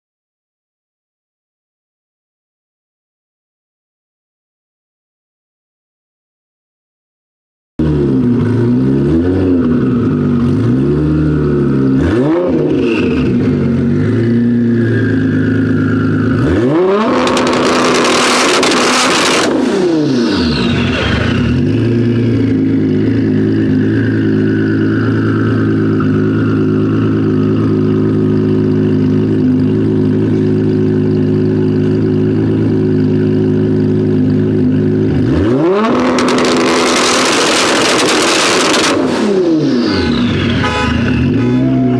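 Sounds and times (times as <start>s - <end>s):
sports car engine revving: 7.8s - 41.9s.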